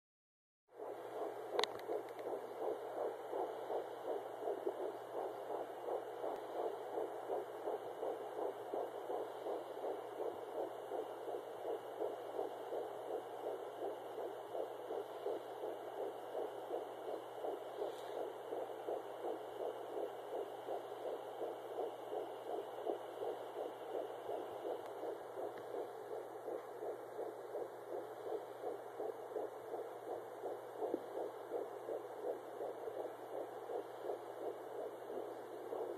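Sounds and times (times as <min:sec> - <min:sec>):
faint steady hum: 0:00.7 - 0:35.9
whooshing heartbeat pulse: 0:00.7 - 0:35.9.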